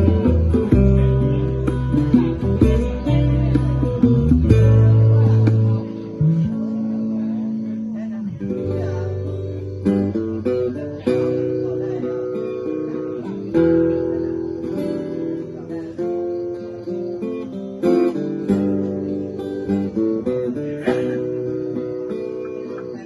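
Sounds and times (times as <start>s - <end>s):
acoustic guitar chords: 0.0s - 23.0s.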